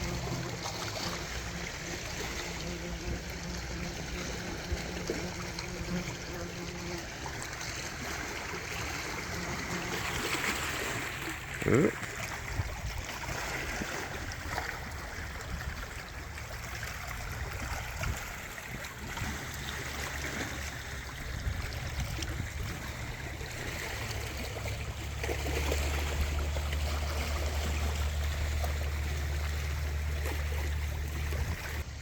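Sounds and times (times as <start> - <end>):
low steady rumble: 0.0 - 8.6, 14.0 - 32.0
water lapping against dock: 0.0 - 32.0.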